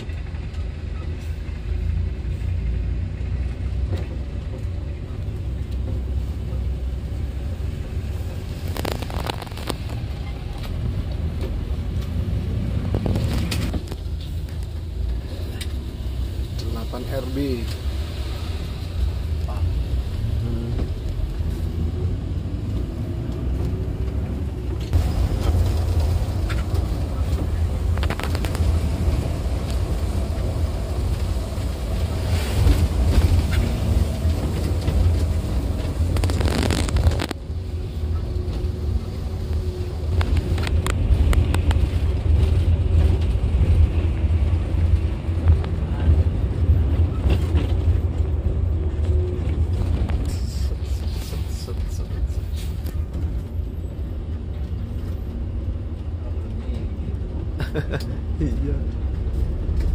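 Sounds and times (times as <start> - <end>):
bus engine and tyres rumbling: 0.0 - 59.9.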